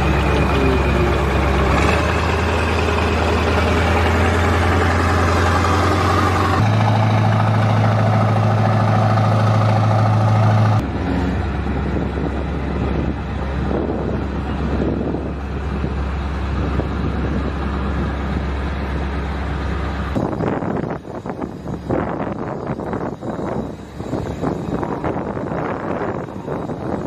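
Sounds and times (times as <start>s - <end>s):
tracked vehicle diesel engine: 0.0s - 27.0s.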